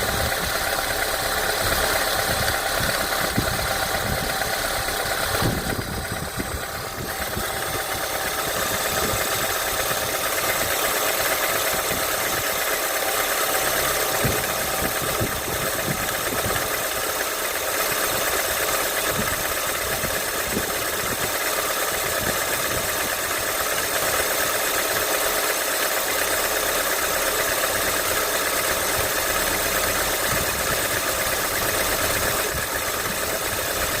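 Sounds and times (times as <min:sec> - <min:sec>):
engine idling with a knock: 0:00.0 - 0:34.0.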